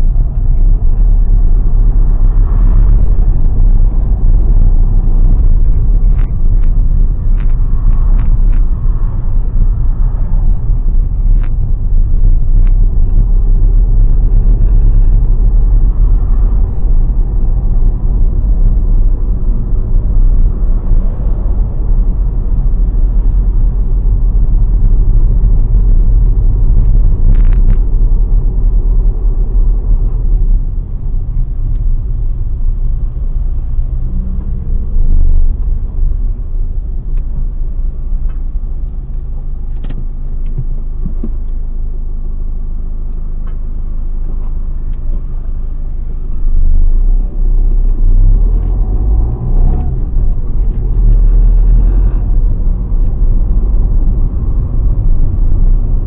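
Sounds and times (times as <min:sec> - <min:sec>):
car driving interior rumble: 0:00.0 - 0:56.0.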